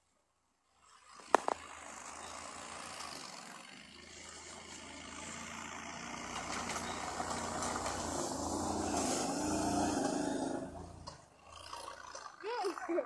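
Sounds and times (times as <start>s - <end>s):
atv engine running: 0.8s - 13.0s.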